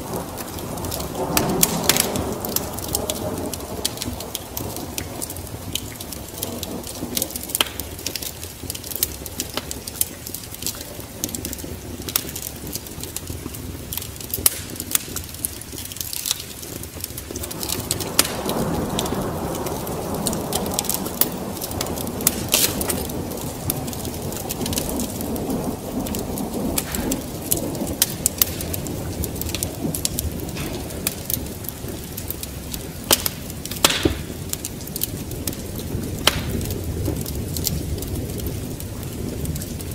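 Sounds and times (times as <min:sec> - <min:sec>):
rain: 0:00.0 - 0:39.9
thunder rumbling: 0:00.0 - 0:39.9
wood fire crackling: 0:00.0 - 0:39.9.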